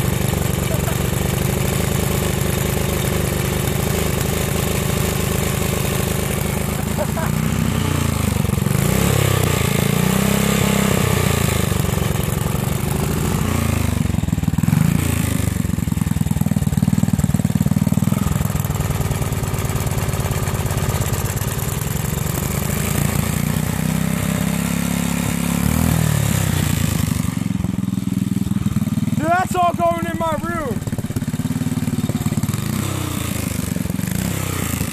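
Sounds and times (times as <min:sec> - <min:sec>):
small engine running: 0:00.0 - 0:34.9.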